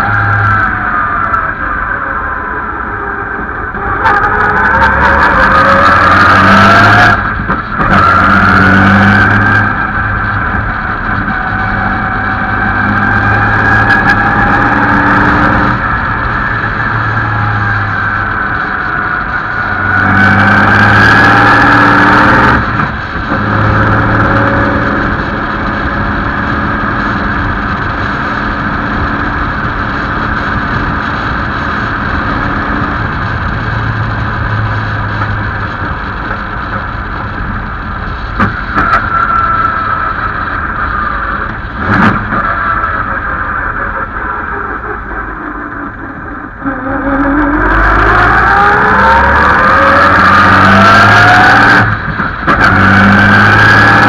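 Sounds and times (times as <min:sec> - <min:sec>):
racing car engine under load: 0:00.0 - 0:54.0.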